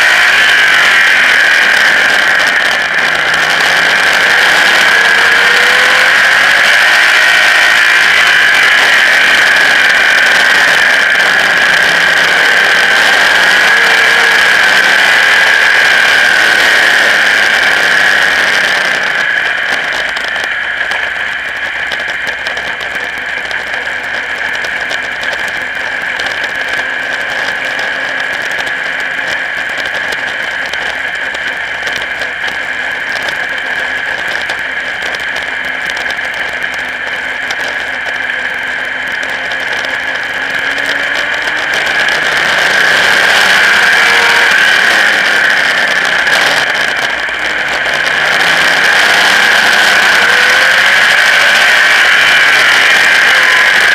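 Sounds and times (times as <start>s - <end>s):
race car engine running hard: 0.0s - 53.9s.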